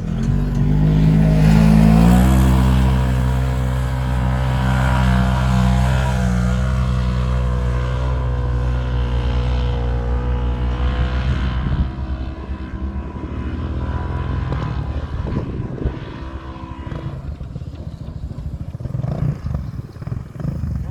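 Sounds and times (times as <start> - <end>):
dirt bike engine running: 0.0 - 20.9.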